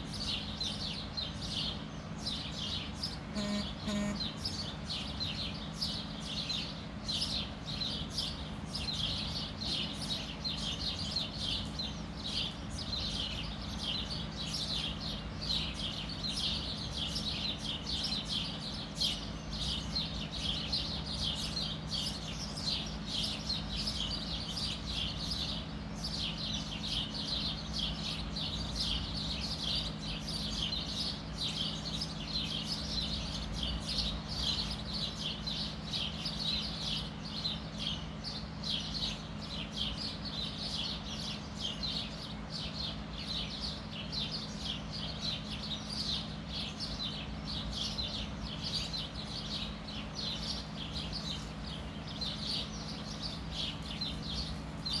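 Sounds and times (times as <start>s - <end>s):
birds chirping: 0.0s - 55.0s
steady low hum: 0.0s - 55.0s.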